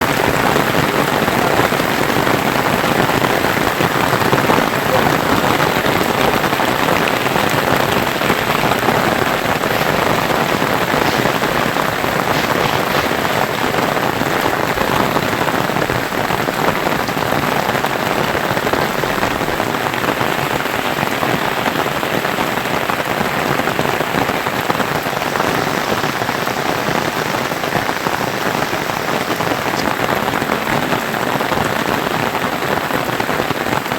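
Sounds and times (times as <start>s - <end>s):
heavy rain pattering: 0.0s - 33.9s.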